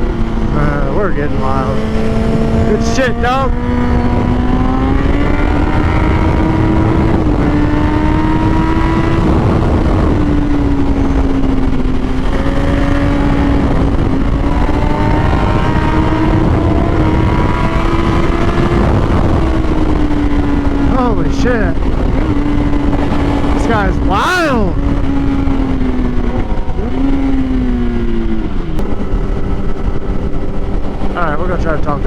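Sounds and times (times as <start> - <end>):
low wind rush: 0.0 - 32.0
motorcycle engine at high revs: 0.0 - 32.0.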